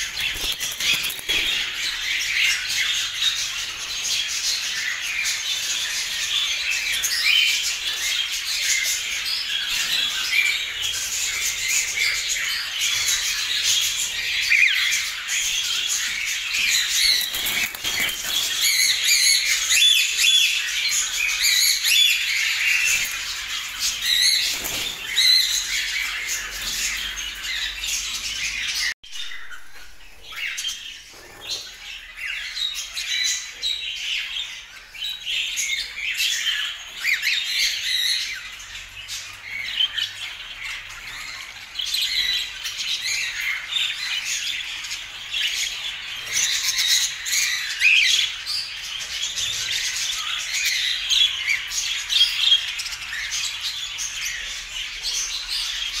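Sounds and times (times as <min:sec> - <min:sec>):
cockatiels chirping and squawking: 0:00.0 - 0:56.0.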